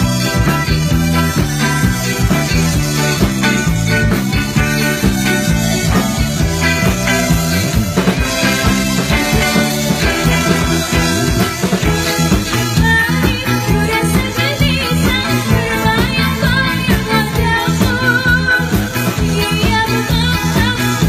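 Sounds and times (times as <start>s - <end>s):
electric guitar: 0.0s - 21.0s
keyboard: 0.0s - 21.0s
live rock band playing: 0.0s - 21.0s.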